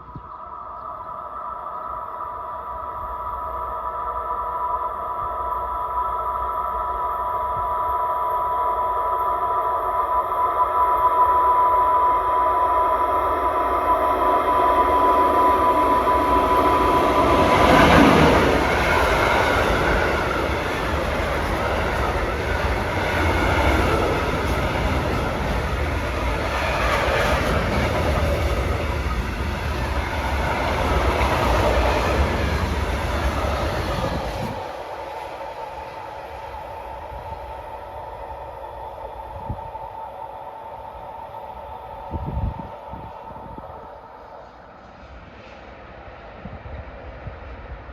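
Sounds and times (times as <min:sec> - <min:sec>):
electric locomotive whine: 0:00.0 - 0:47.9
wagons rumbling on rails: 0:06.3 - 0:46.3.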